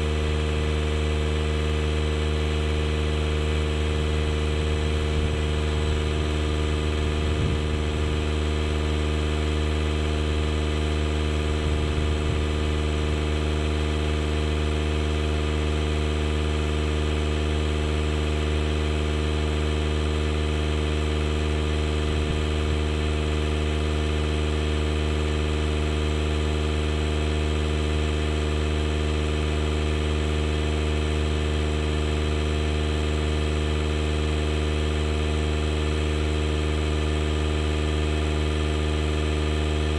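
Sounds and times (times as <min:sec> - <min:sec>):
air compressor motor droning: 0:00.0 - 0:39.9.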